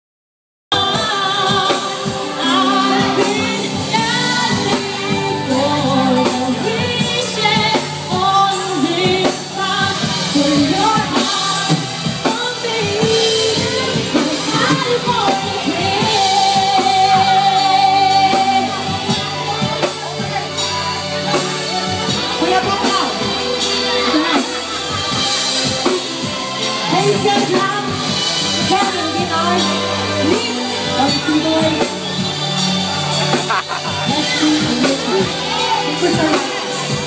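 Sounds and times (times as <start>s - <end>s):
person singing pop song: 0.7s - 37.0s
steady drum beat: 0.7s - 37.0s.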